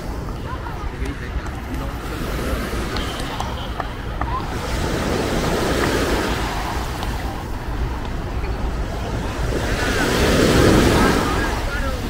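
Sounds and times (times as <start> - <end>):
small waves washing on shore: 0.0 - 12.0
wind rumbling on microphone: 0.0 - 12.0.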